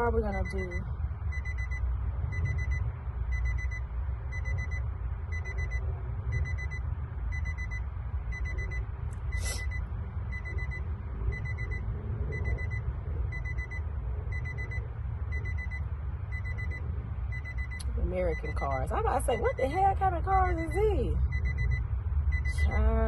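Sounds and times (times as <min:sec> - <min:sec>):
car warning chime beeping: 0:00.0 - 0:23.0
low rumble: 0:00.0 - 0:23.0.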